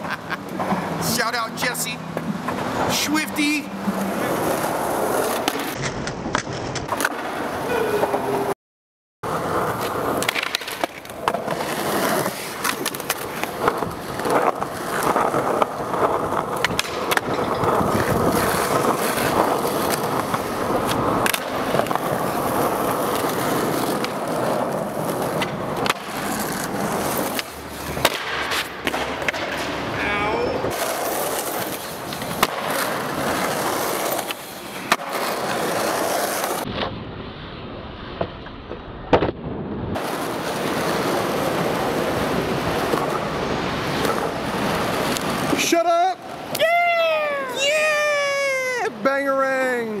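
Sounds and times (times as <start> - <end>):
skateboard wheels rolling on concrete: 0.0 - 8.6, 9.2 - 50.0
skateboard popping and landing: 3.8 - 8.5, 9.3 - 30.0, 30.6 - 37.2, 38.0 - 47.4.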